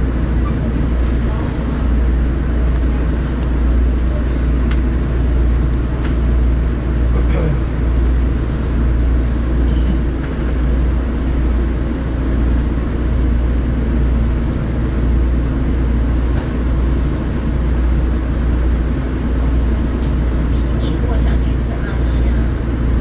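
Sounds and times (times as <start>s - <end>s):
diesel railcar rumbling: 0.0s - 23.0s.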